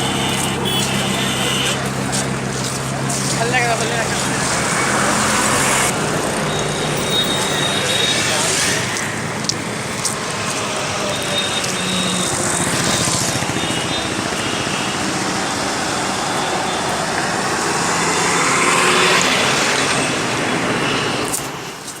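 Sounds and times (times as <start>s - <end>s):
vehicles driving by: 0.0s - 22.0s.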